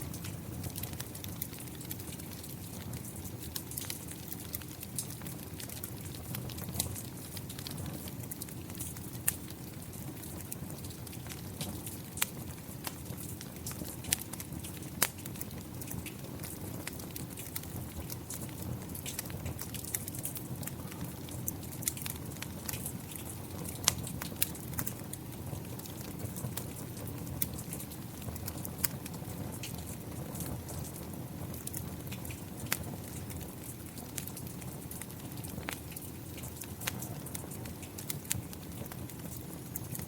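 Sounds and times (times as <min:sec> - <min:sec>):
steady rain: 0:00.0 - 0:40.0
wood fire crackling and popping: 0:00.0 - 0:40.0.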